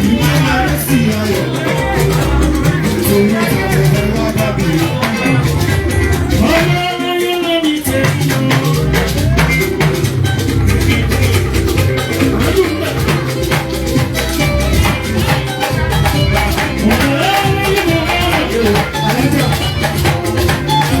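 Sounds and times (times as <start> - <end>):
church band music: 0.0 - 21.0
heavy bass line: 0.0 - 21.0
held wavering melody: 0.0 - 21.0.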